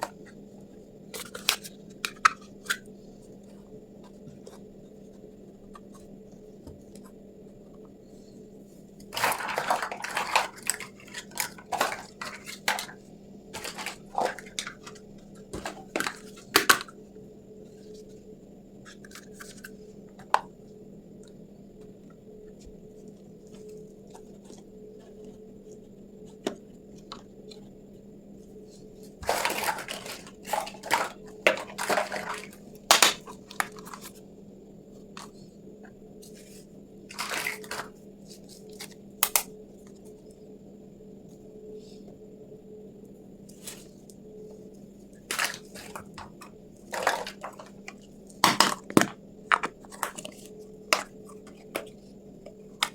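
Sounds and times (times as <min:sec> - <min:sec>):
faint hum: 0:00.0 - 0:52.9.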